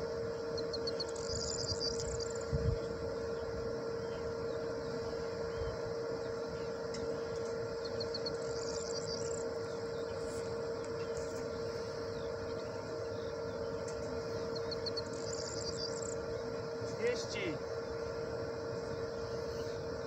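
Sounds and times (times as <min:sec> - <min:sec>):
songbird singing: 0:00.0 - 0:20.0
steady hum: 0:00.0 - 0:20.0.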